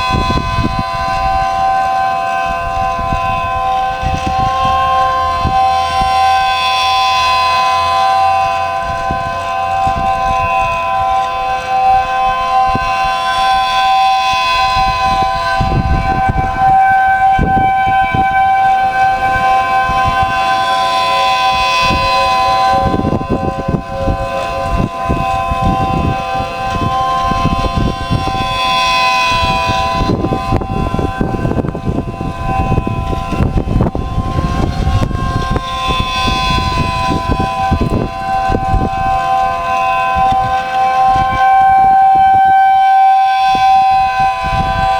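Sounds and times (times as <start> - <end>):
siren sounding a steady chord: 0.0 - 44.9
wind buffeting microphone: 0.0 - 44.9.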